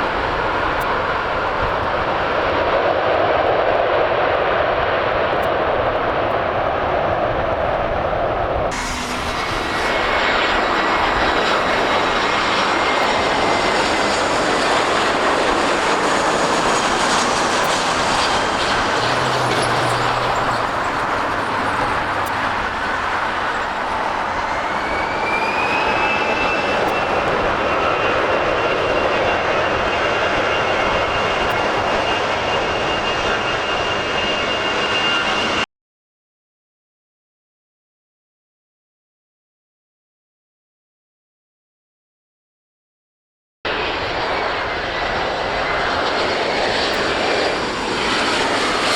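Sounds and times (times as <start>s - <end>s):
jet engines running: 0.0s - 35.6s, 43.7s - 48.9s.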